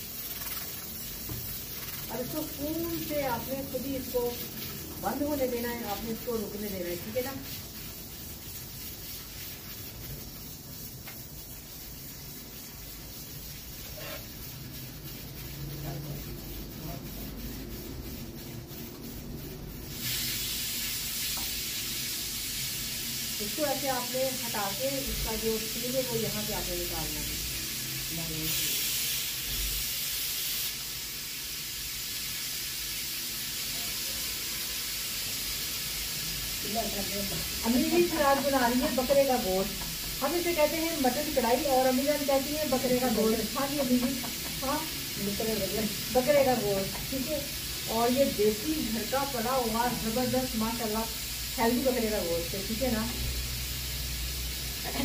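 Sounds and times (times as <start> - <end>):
steam hissing from pressure cooker: 0.0 - 55.0.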